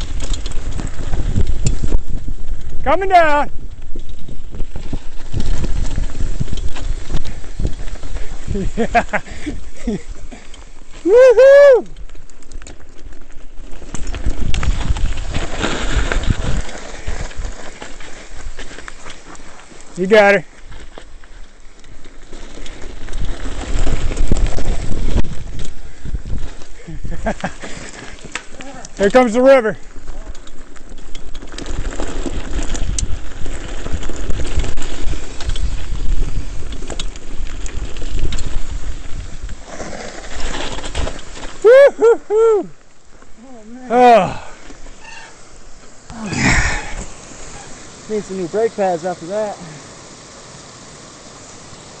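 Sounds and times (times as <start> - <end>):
bike knocking and rattling: 0.0 - 42.0
bike tyres rumbling over dirt: 0.0 - 52.0.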